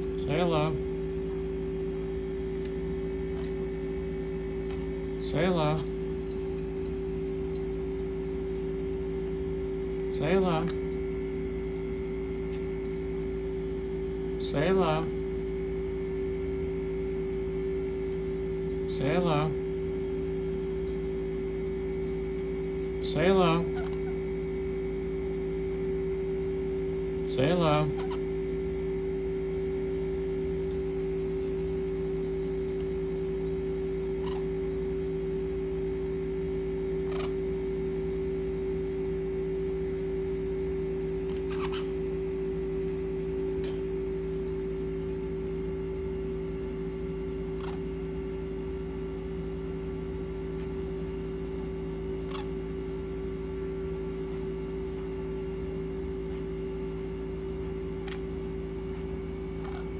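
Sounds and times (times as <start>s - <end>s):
steady multi-tone hum: 0.0s - 59.9s.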